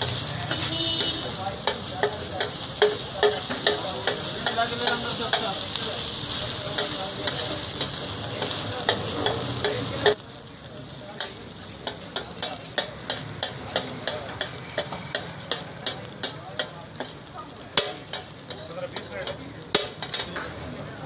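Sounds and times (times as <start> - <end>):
metal spatula tapping and scraping: 0.0 - 10.2, 11.2 - 20.6
meat sizzling on griddle: 0.0 - 21.0.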